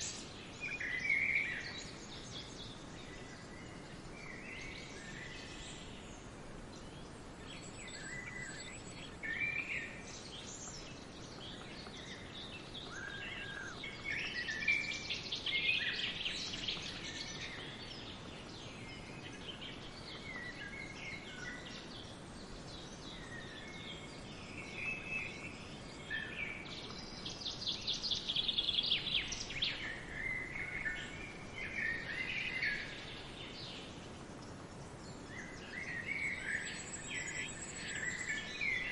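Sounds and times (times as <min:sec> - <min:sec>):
rapid trilled bird song: 0:00.0 - 0:38.9
songbirds singing and calling: 0:00.0 - 0:38.9
steady background hiss: 0:00.0 - 0:38.9.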